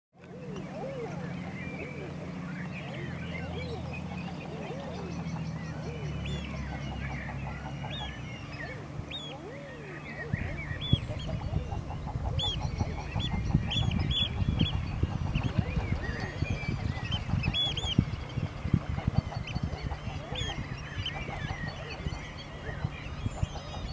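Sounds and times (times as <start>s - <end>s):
waterfowl calling: 0.5s - 23.9s.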